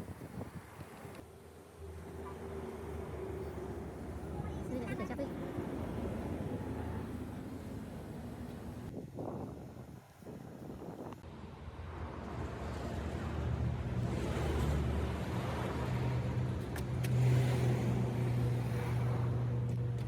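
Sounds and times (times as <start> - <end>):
vehicle engine humming: 1.1 - 9.0, 11.2 - 20.0.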